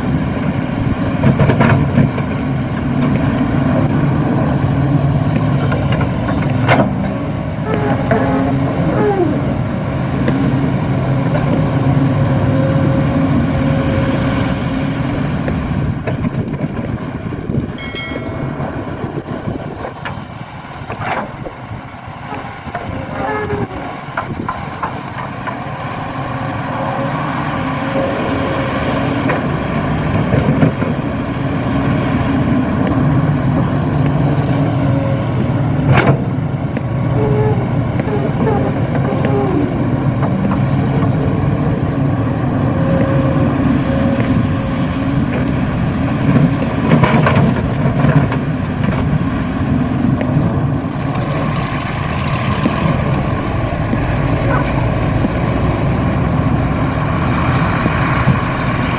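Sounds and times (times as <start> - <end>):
model excavator motor hum: 0.0 - 58.9.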